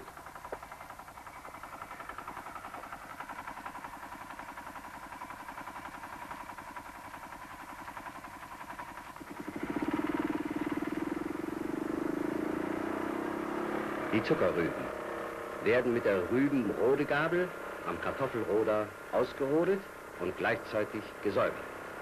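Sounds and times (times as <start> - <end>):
tractor diesel engine chugging: 0.0 - 22.0.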